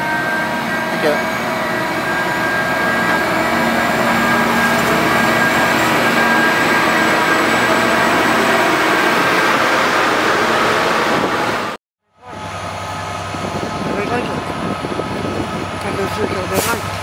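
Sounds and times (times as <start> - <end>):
diesel engines and wheels on rails: 0.0 - 17.0
rail machines passing: 0.0 - 17.0.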